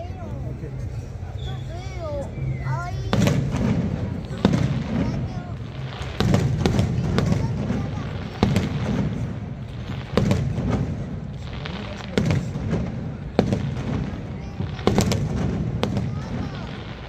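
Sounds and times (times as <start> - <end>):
crowd chatter: 0.0 - 17.0
fireworks bangs: 0.0 - 17.0.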